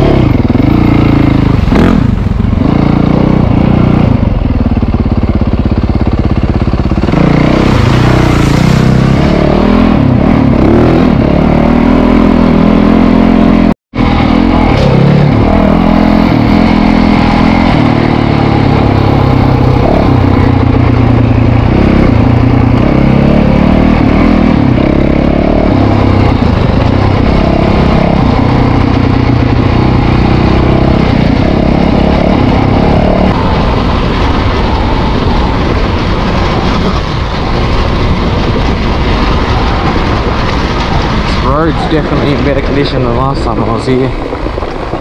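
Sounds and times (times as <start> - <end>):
dirt bike engine: 0.0 - 45.0.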